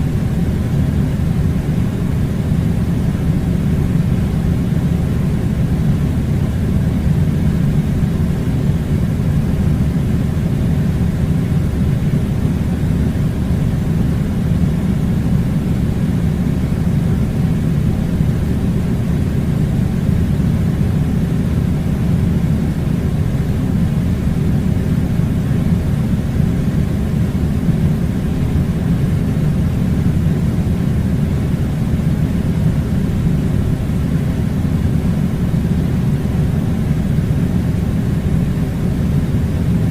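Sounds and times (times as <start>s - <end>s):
air conditioner blowing: 0.0s - 39.9s.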